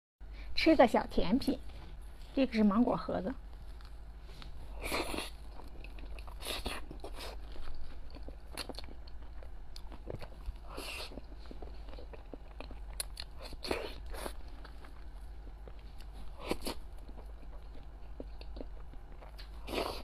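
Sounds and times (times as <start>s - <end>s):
wet chewing and swallowing: 3.5s - 20.0s.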